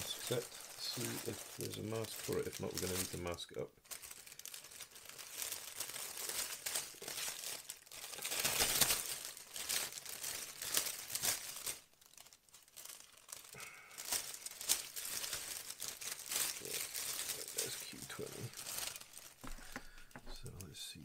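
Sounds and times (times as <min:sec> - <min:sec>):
packaging crinkling and rustling: 0:00.0 - 0:20.6.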